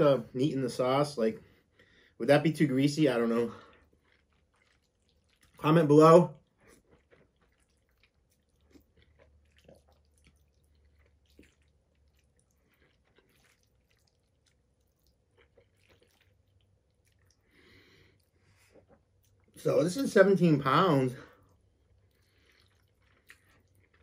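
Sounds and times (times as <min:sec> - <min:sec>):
faint chewing: 0:03.2 - 0:20.3, 0:21.2 - 0:24.0.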